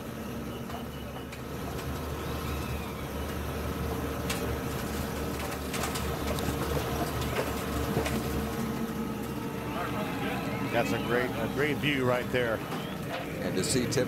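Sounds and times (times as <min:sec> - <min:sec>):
low hum in truck cab: 0:00.0 - 0:14.0.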